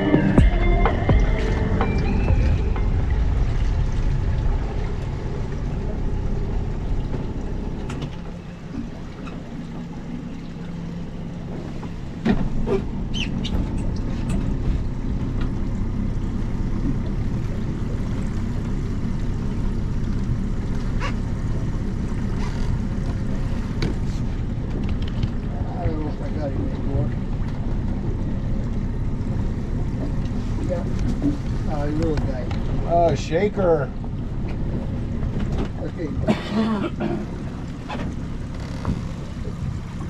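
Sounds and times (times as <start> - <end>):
outboard motor rumble: 0.0 - 40.0
water noise: 0.0 - 40.0.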